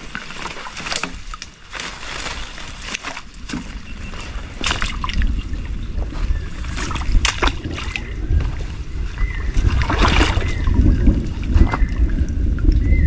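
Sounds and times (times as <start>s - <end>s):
water splashing: 0.0s - 13.0s
wind rumbling on microphone: 0.0s - 13.0s.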